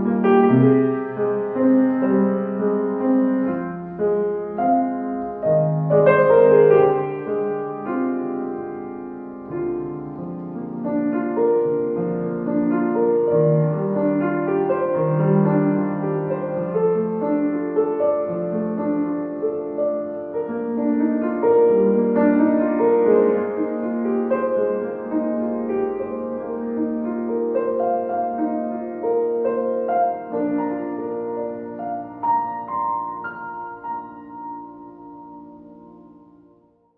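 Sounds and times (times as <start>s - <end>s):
soft piano music: 0.0s - 36.9s.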